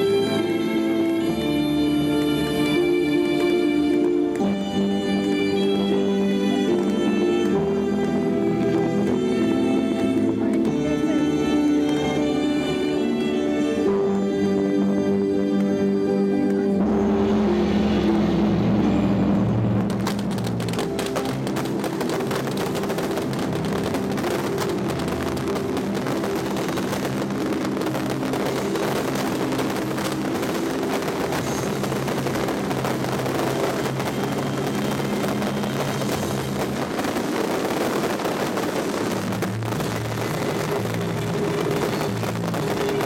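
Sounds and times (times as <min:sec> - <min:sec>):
fireworks crackling and popping: 0:00.0 - 0:43.0
music over loudspeakers: 0:00.0 - 0:43.0.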